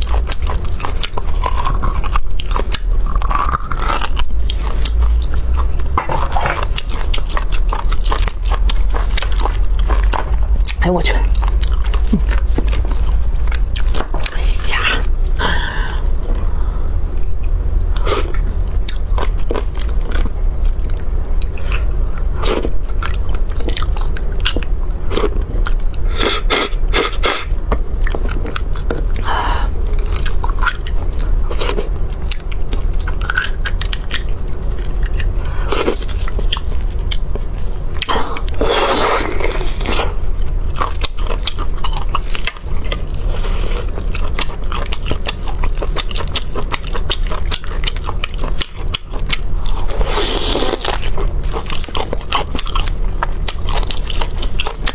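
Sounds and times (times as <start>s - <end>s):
person chewing and lip-smacking: 0.0s - 16.5s, 17.2s - 54.9s
steady low hum: 0.0s - 54.9s.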